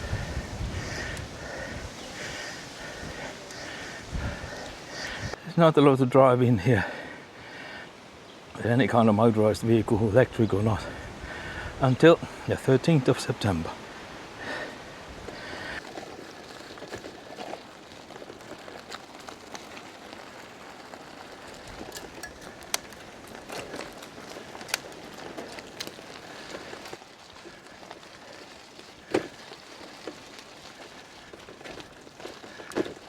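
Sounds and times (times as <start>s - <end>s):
bicycle tyres crunching on gravel: 0.0s - 5.4s, 8.8s - 33.0s.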